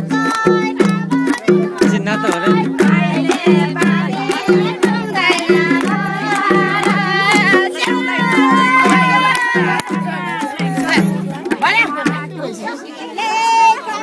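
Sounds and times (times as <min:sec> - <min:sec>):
people clapping along: 0:00.0 - 0:12.3
folk song singing over beat: 0:00.0 - 0:13.8.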